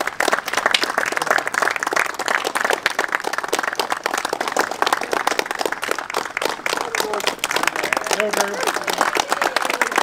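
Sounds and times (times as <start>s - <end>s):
people clapping: 0.0s - 10.0s.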